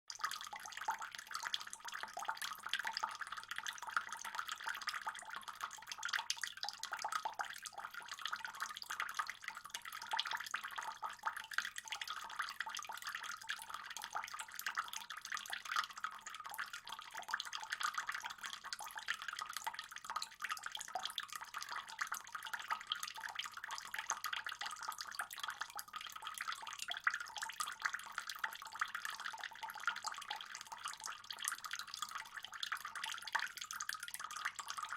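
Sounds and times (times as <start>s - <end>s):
pond water trickling and splashing: 0.1s - 34.9s.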